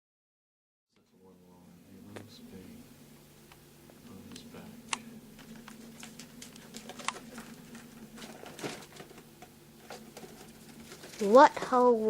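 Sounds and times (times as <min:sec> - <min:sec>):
steady low hum: 0:00.9 - 0:12.0.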